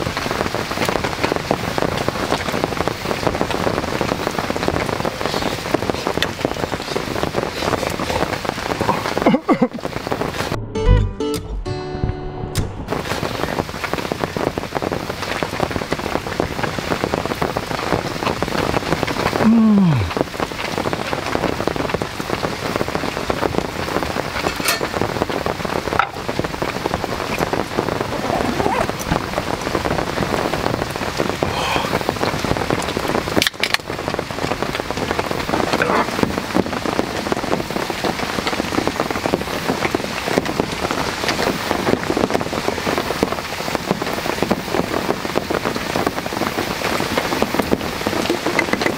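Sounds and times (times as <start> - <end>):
heavy rain on tent: 0.0 - 10.6, 12.7 - 48.9.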